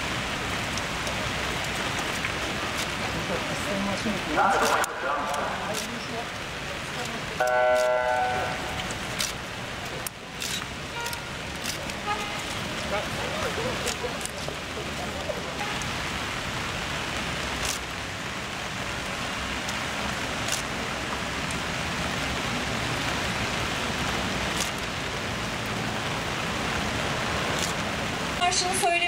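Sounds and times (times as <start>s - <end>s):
rain on paving and umbrellas: 0.0s - 29.0s.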